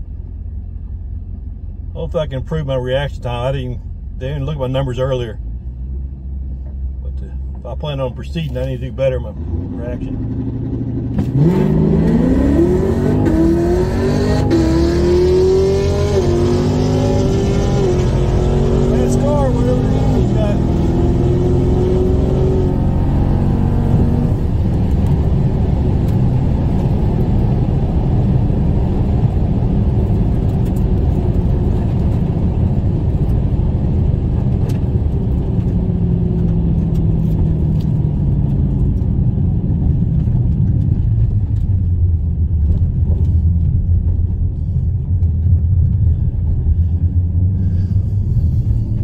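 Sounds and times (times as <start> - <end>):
car engine rumbling: 0.0 - 49.0
road and wind noise: 0.0 - 49.0.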